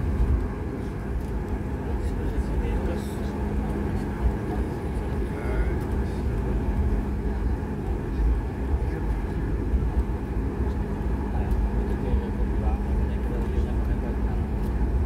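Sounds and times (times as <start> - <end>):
airliner engines rumbling: 0.0 - 15.0
constant cabin hum: 0.0 - 15.0.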